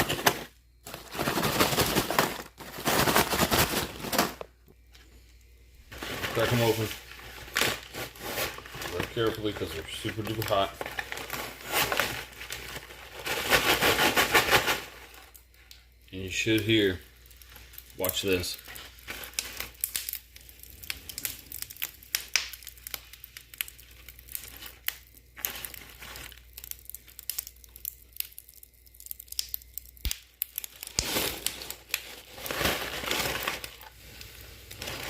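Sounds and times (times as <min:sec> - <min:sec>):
bag crinkling: 0:00.0 - 0:04.9, 0:05.8 - 0:15.5, 0:16.4 - 0:35.0
pork rinds crackling and popping: 0:06.3 - 0:35.0.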